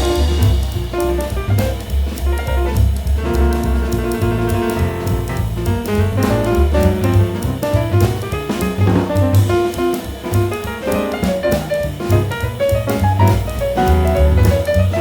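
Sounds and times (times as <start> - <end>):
jazz instrumental music: 0.0 - 15.0.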